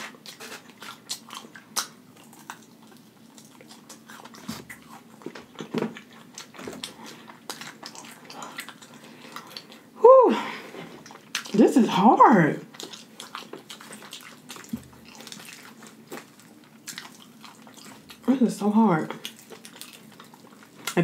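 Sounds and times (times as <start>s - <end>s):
crunchy chewing: 0.0s - 10.0s, 10.8s - 11.7s, 12.6s - 21.0s.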